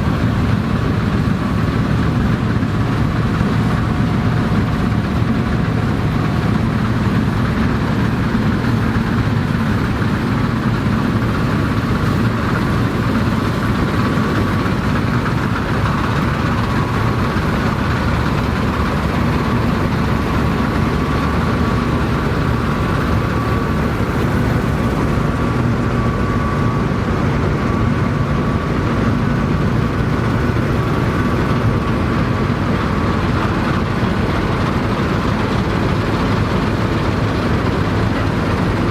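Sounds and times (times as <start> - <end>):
combine harvester mechanical hum: 0.0 - 38.9.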